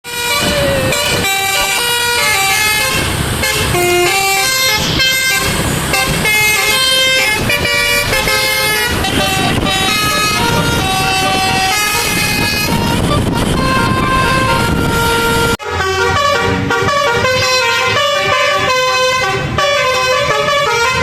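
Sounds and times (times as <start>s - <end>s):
musical air horn tune: 0.1s - 21.0s.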